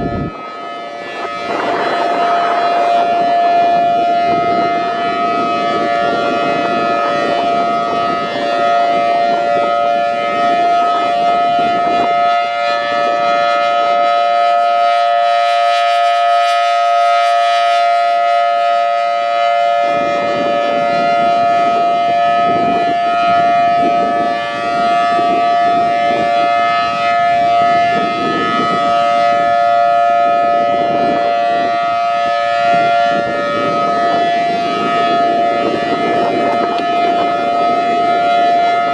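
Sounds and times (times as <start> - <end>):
warning siren steady tone: 0.0 - 38.9
wind rumbling on microphone: 0.0 - 38.9.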